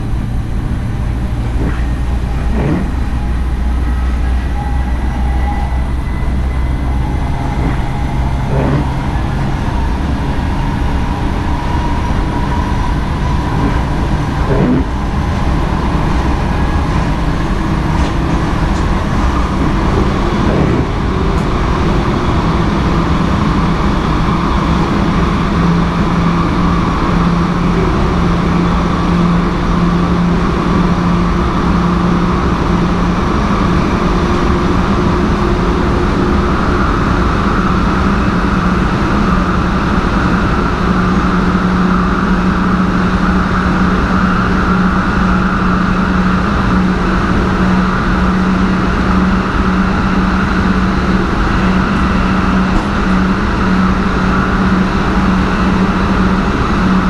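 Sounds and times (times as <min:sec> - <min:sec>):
train motor hum: 0:00.0 - 0:57.0
train wheel and rail noise: 0:00.0 - 0:57.0.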